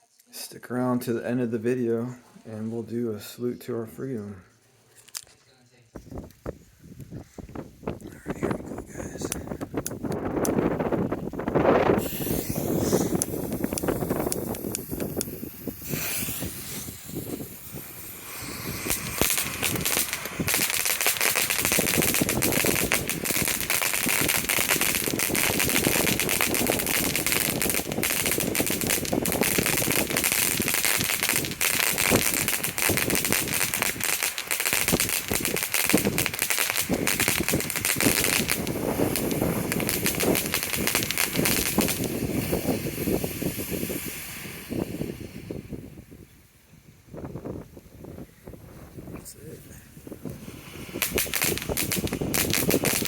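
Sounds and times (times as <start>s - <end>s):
fountain fireworks hissing and crackling: 7.8s - 46.2s, 47.2s - 53.0s.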